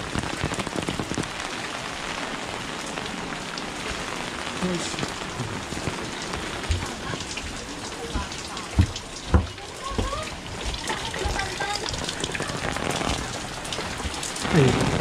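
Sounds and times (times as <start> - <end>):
close raindrop impacts: 0.0 - 15.0
steady rain falling: 0.0 - 15.0.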